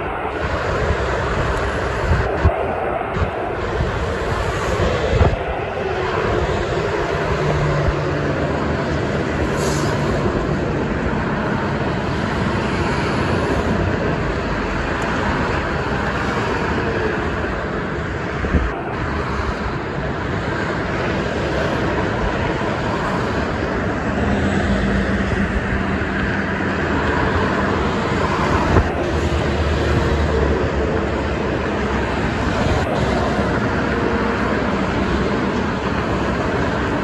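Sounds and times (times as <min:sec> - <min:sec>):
highway traffic rushing: 0:00.0 - 0:37.0
truck engine drone: 0:00.0 - 0:37.0.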